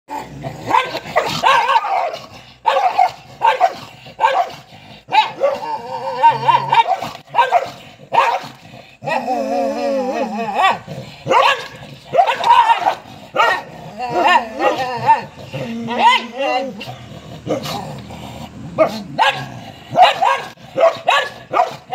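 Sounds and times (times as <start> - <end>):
long wavering dog growl: 0.1 - 20.8
dogs snarling and yelping: 0.1 - 21.9
dogs barking: 0.4 - 9.3, 10.4 - 21.9.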